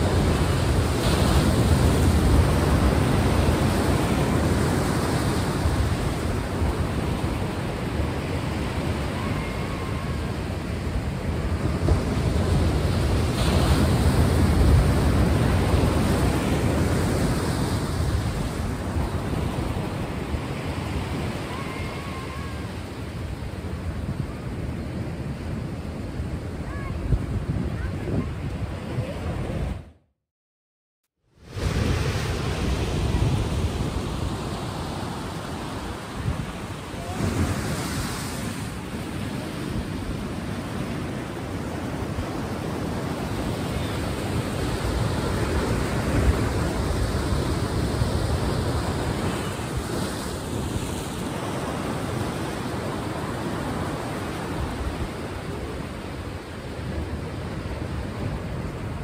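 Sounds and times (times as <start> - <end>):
sea waves washing on shore: 0.0 - 29.8, 31.4 - 59.0.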